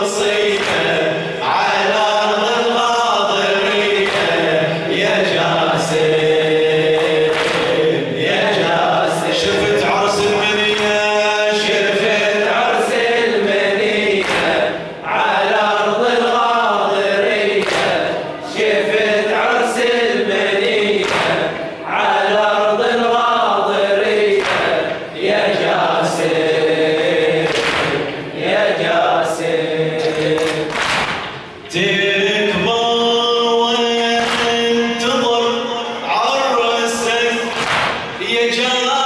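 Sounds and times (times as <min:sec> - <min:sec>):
man reciting melodically: 0:00.0 - 0:27.4, 0:31.7 - 0:39.0
men chanting together: 0:00.0 - 0:39.0.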